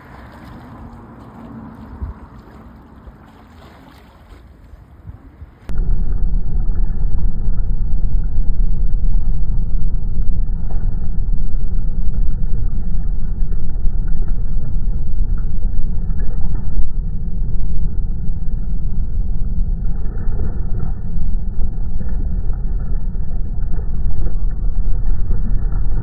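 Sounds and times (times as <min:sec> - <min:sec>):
deep slowed waterside rumble: 0:00.0 - 0:26.0.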